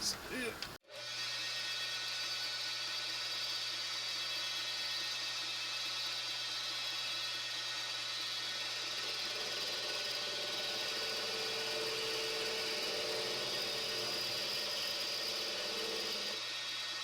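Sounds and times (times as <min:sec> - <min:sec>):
metal lathe motor hum and whine: 0:00.9 - 0:17.0.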